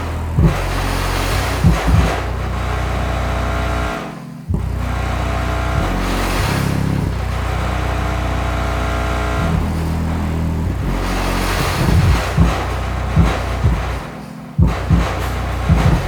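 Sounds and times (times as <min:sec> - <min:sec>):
subwoofer playing deep bass notes: 0:00.0 - 0:16.0.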